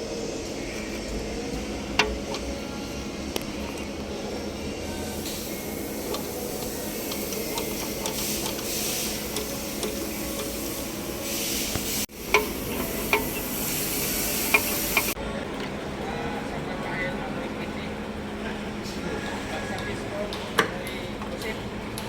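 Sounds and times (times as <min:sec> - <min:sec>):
tractor engine hum: 0:00.0 - 0:22.0.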